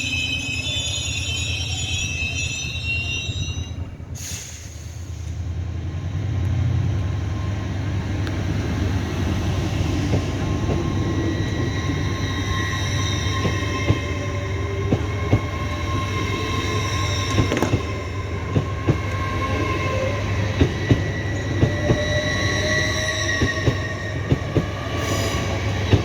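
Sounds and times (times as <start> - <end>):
high-pitched train squealing: 0.0 - 5.3, 8.6 - 26.0
train low rumble: 0.0 - 26.0.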